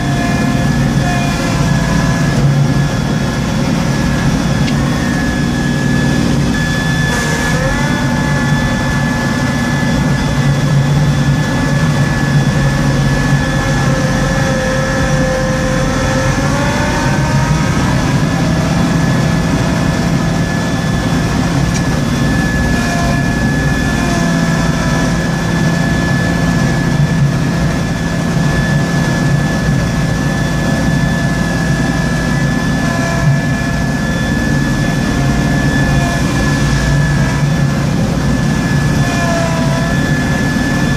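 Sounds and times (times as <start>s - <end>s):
constant high whine: 0.0s - 40.9s
tractor engine drone: 0.0s - 40.9s.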